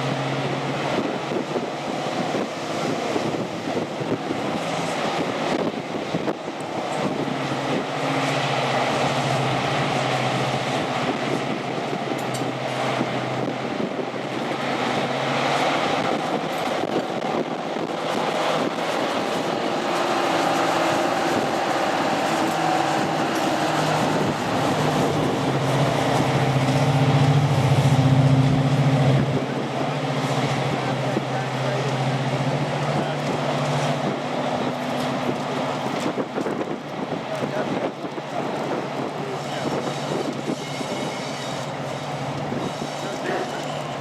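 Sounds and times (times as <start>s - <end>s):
diesel locomotive engine droning: 0.0s - 44.0s.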